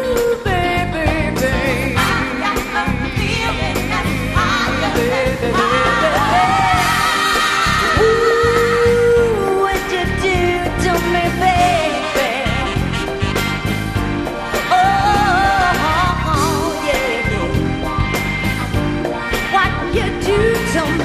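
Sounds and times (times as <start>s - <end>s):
woman singing with vibrato: 0.0s - 13.2s, 14.5s - 17.9s, 19.5s - 21.0s
pop-soul band playing: 0.0s - 21.0s.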